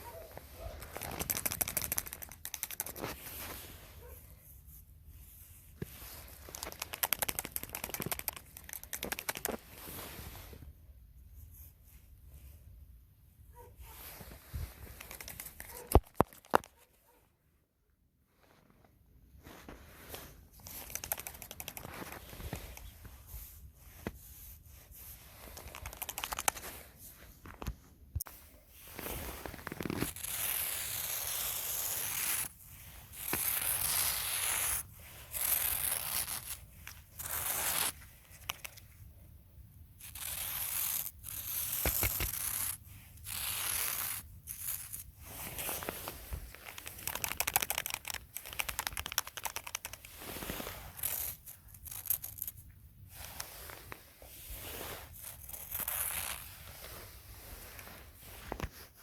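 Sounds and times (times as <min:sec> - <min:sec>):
material rustling by hand: 0:00.0 - 0:39.1, 0:40.0 - 0:59.0.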